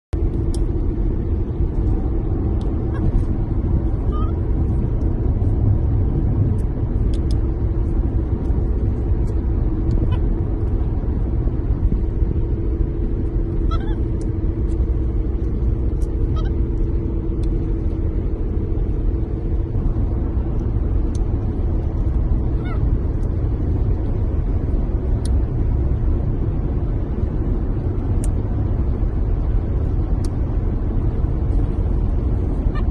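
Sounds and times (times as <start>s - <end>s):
car engine rumble inside cabin: 0.1s - 32.9s.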